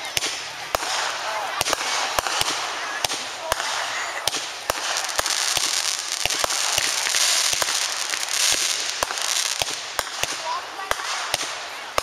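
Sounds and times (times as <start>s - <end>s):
fireworks cracking and popping: 0.0s - 12.0s
steady hiss: 0.3s - 11.7s.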